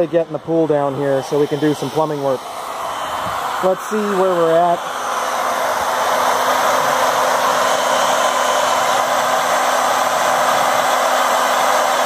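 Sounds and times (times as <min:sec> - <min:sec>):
electric water pump humming: 0:00.0 - 0:12.0.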